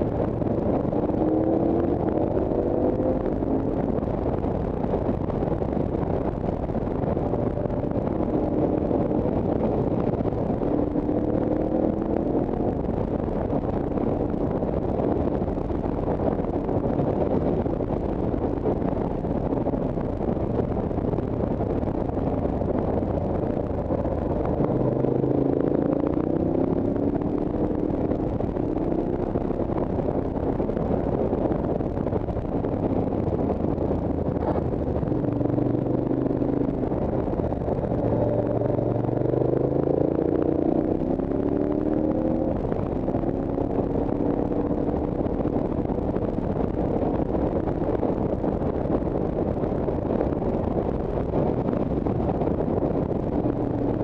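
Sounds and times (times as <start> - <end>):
motorcycle engine revving: 0.0 - 18.9, 21.6 - 31.6, 32.6 - 54.0
steady rush of noise: 0.0 - 54.0.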